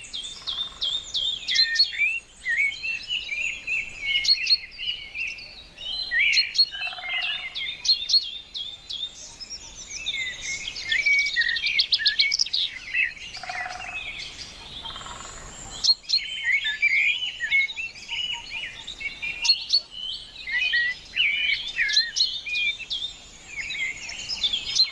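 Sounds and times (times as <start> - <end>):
small birds chirping chorus: 0.0 - 24.9.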